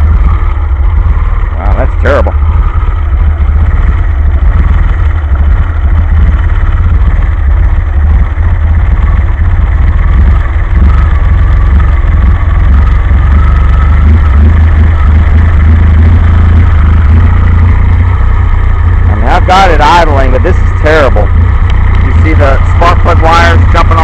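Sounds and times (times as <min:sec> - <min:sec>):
engine idling roughly: 0:00.0 - 0:24.0.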